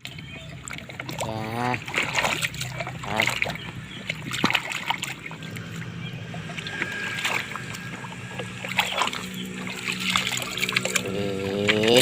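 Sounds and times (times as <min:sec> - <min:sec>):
low hum: 0:00.0 - 0:12.0
water splashing in a tub: 0:00.0 - 0:12.0.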